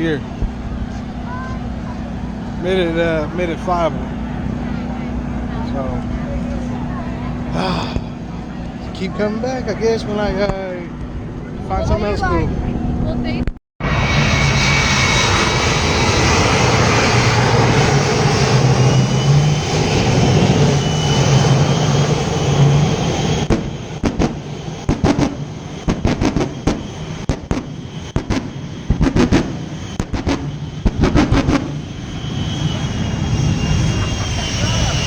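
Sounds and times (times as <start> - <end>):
aircraft engine roar: 0.0 - 35.0.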